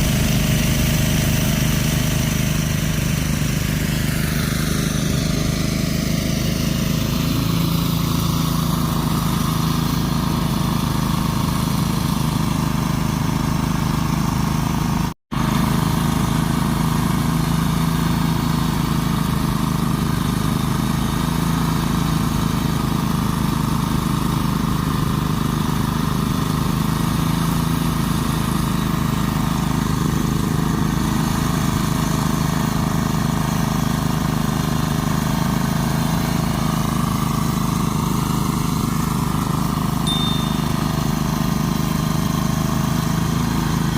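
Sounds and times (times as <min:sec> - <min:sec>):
small engine humming: 0:00.0 - 0:43.9.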